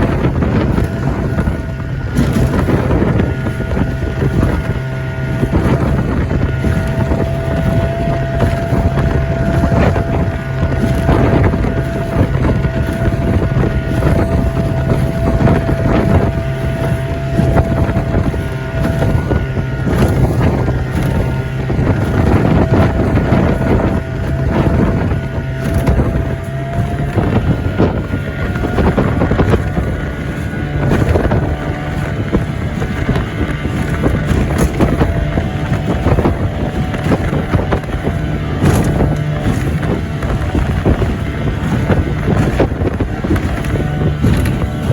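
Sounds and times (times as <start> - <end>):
boat motor running: 0.0 - 44.9
hull knocking and splashing on waves: 0.0 - 44.9
wind buffeting microphone: 0.0 - 44.9.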